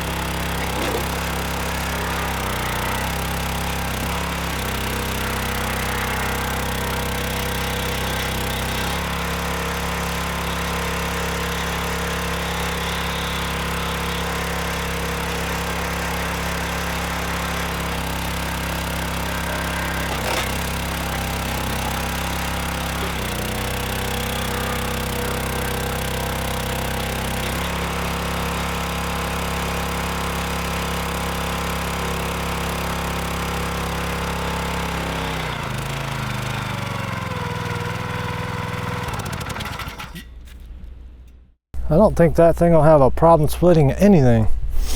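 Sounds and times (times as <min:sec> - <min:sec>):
small gas engine running: 0:00.0 - 0:40.3.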